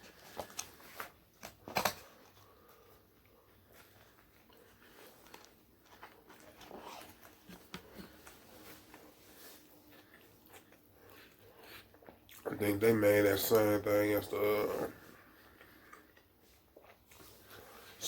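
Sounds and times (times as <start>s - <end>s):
person chewing: 0.0s - 12.6s, 14.4s - 18.0s.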